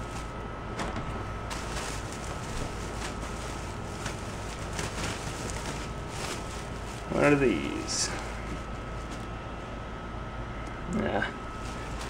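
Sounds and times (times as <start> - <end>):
plastic bag rustling and crinkling: 0.0 - 9.4, 11.4 - 12.0
steady background hum: 0.0 - 12.0.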